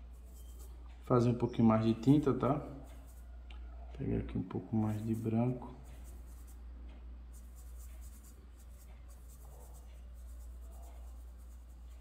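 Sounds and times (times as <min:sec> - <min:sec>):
paintbrush brushing and scraping: 0:00.0 - 0:01.1, 0:01.7 - 0:03.6, 0:04.5 - 0:12.0
low steady hum: 0:00.0 - 0:12.0.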